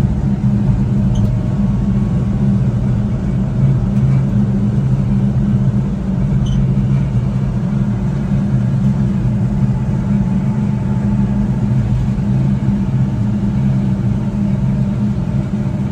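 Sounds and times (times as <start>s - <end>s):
small truck engine droning: 0.0s - 15.9s.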